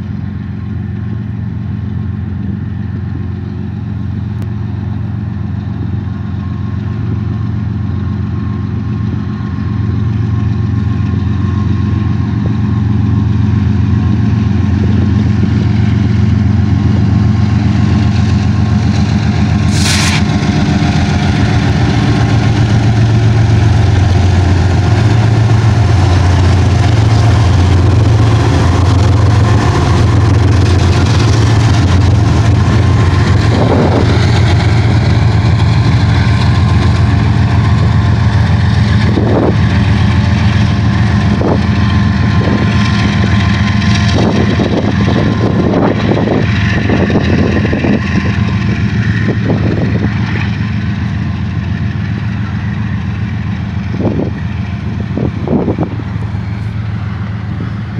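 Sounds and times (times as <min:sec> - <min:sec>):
diesel locomotive engines droning: 0:00.0 - 0:57.9.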